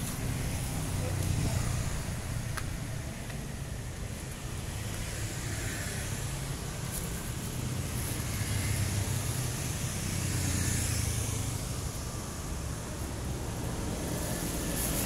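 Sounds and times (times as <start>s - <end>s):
traffic noise: 0.0s - 15.0s
vehicle engines rumbling: 0.0s - 15.0s.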